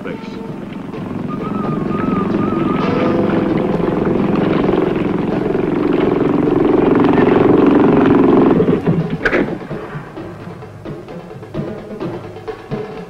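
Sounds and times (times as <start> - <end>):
outboard motors droning: 0.0 - 13.0.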